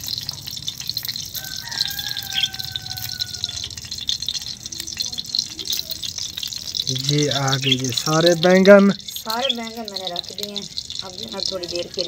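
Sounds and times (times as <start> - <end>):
eggplant sizzling in hot fat: 0.0 - 12.0.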